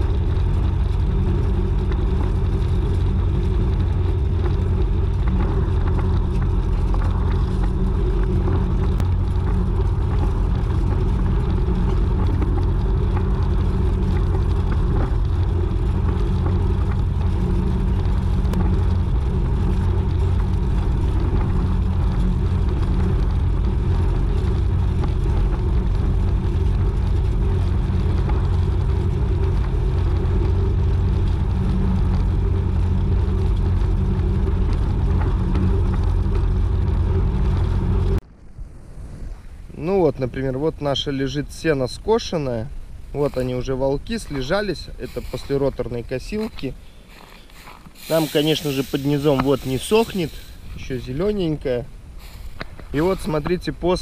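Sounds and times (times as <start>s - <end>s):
tractor diesel engine rumbling: 0.0s - 38.2s, 39.9s - 54.0s.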